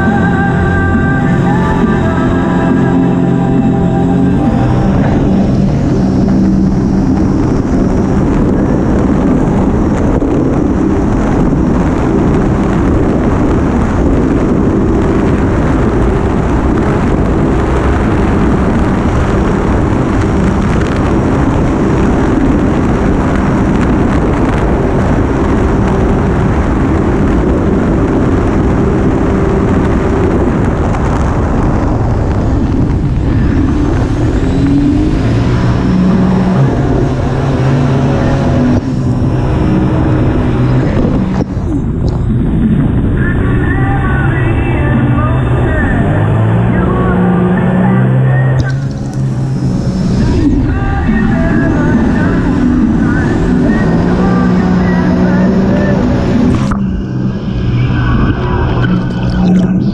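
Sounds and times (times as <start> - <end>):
boat motor running: 0.0 - 59.9
water rushing past hull: 0.0 - 59.9
wind on microphone: 0.0 - 59.9.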